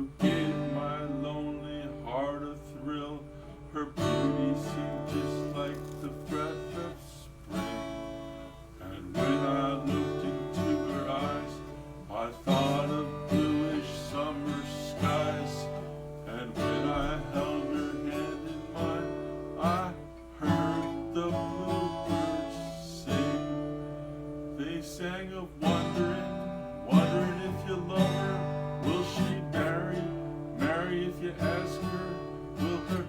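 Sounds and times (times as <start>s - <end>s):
acoustic guitar strumming chords: 0.0s - 33.0s.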